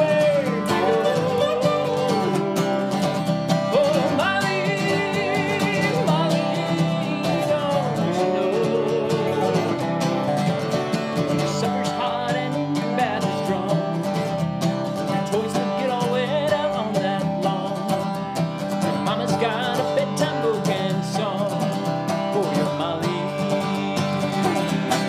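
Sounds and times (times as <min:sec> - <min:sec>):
slide resonator guitar lead: 0:00.0 - 0:25.0
strummed acoustic guitar: 0:00.0 - 0:25.0.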